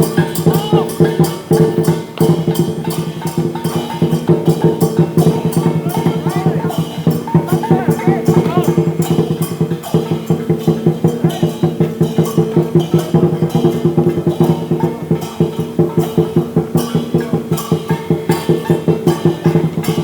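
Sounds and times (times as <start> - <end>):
cymbals crashing: 0.0 - 20.0
large drum beating fast: 0.0 - 20.0.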